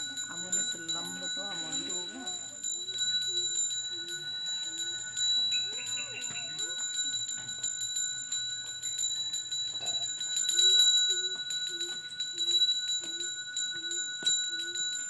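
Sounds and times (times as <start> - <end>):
hand bell ringing: 0.0 - 15.0.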